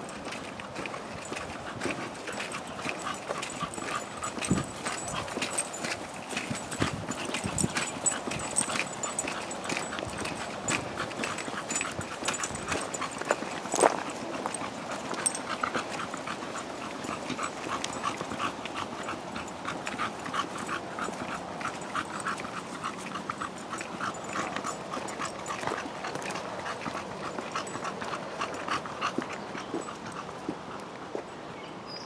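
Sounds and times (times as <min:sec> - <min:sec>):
dog panting: 0:00.0 - 0:31.3.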